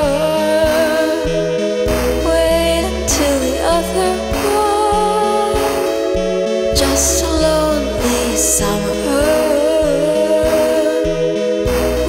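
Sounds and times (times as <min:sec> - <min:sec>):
instrumental backing with bass: 0:00.0 - 0:12.0.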